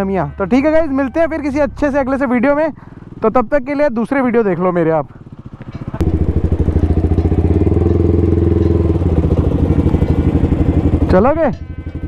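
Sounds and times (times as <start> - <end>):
motorcycle engine idling: 0.5 - 12.0.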